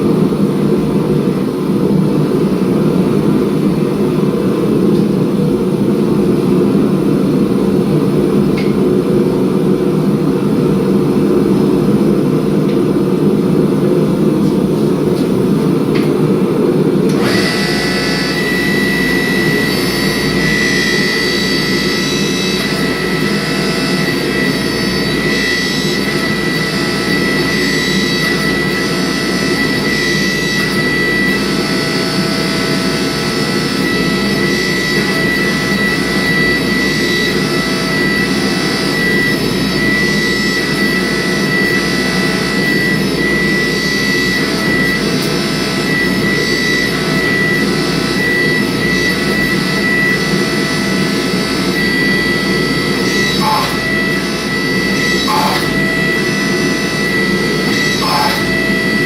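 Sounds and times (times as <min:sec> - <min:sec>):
machine high whine: 0:00.0 - 0:59.0
machine roar: 0:00.0 - 0:59.0.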